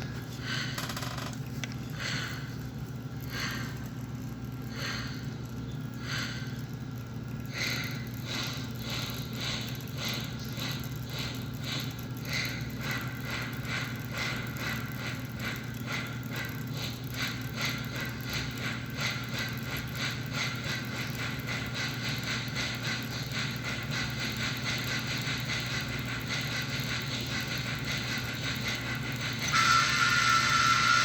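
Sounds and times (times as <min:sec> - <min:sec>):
model train steam chuffing: 0:00.0 - 0:31.0
steady low hum: 0:00.0 - 0:31.0.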